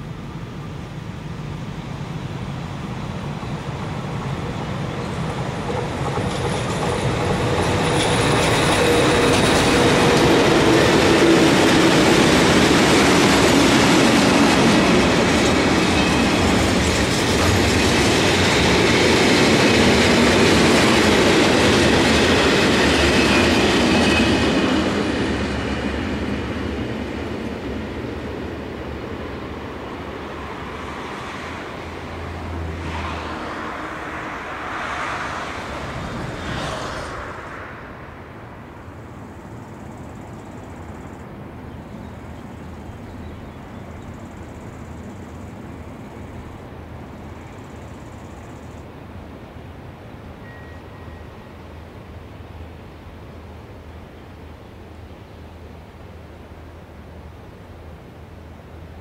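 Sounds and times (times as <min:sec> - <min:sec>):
train wheels on rails: 0:00.0 - 0:52.7
freight train passing: 0:00.0 - 0:59.0.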